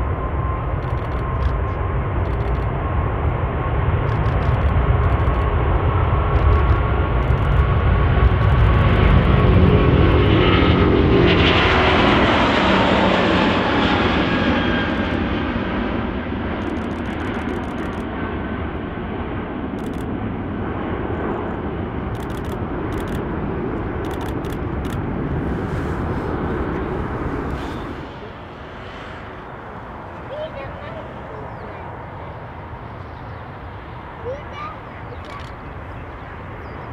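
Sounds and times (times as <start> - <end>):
jet engines at takeoff: 0.0 - 36.9.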